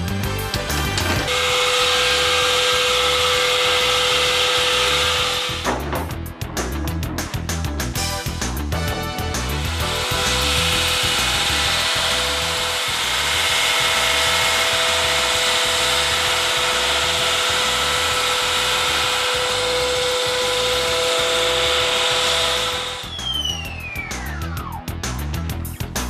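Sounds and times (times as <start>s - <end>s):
wall saw cutting concrete: 0.0s - 24.4s
saw whine falling in pitch: 1.2s - 6.0s, 8.1s - 24.9s.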